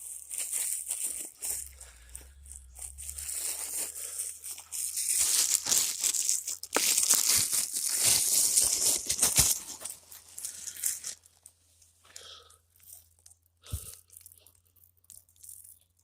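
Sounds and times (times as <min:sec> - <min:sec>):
rustling and crinkling handling: 0:00.0 - 0:16.0.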